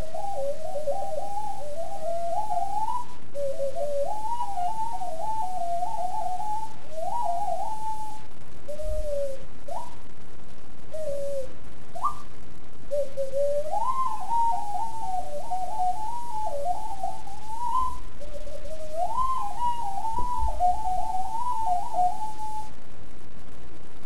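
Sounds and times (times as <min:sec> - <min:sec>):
ocarina melody: 0:00.0 - 0:10.0, 0:10.9 - 0:22.8
steady hiss: 0:00.0 - 0:24.0.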